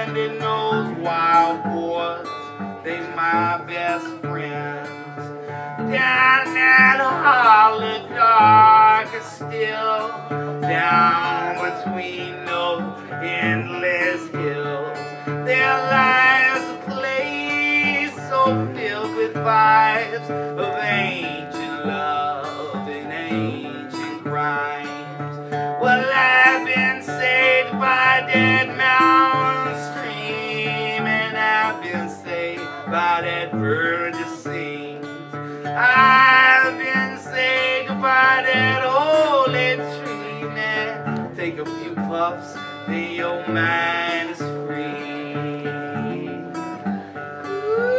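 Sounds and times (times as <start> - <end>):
acoustic guitar: 0.0 - 47.9
man singing: 0.0 - 47.9.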